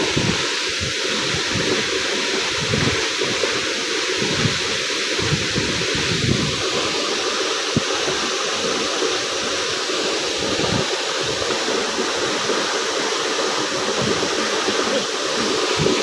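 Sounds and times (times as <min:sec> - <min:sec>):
waterfall hissing: 0:00.0 - 0:16.0.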